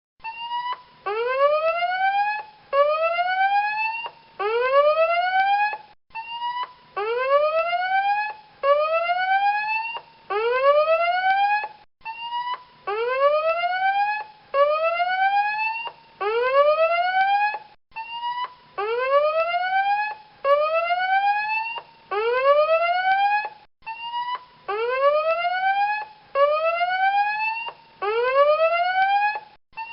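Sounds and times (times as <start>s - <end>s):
alarm siren beep and whoop: 0.2s - 29.9s.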